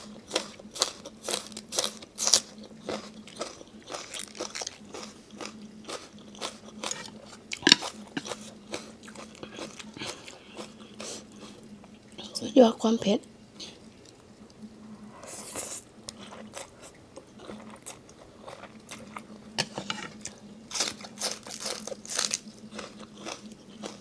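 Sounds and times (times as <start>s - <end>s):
crunchy chewing: 0.0s - 12.0s, 15.3s - 24.0s.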